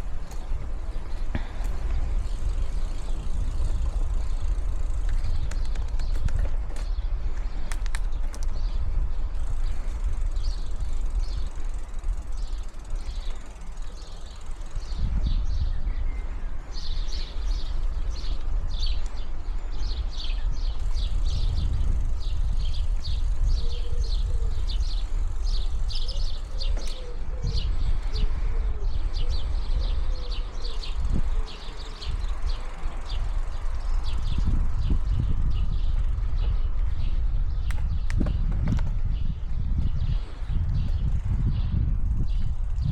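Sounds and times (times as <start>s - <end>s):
bicycle tyres rolling: 0.0s - 42.9s
small birds chirping: 0.0s - 42.9s
wind rumble on microphone: 0.0s - 42.9s.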